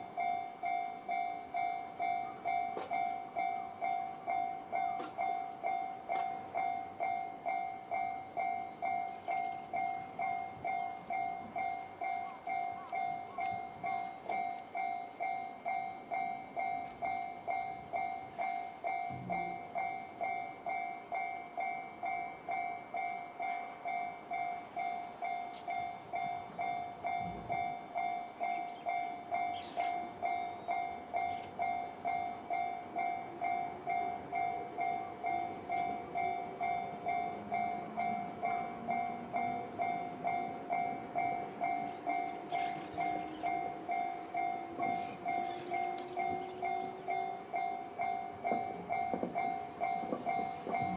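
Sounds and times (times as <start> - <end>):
level-crossing bell ringing: 0.0 - 50.9.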